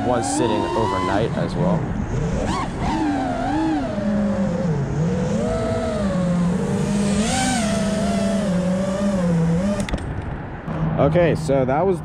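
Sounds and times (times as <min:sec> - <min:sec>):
quadcopter motors whining: 0:00.0 - 0:10.2.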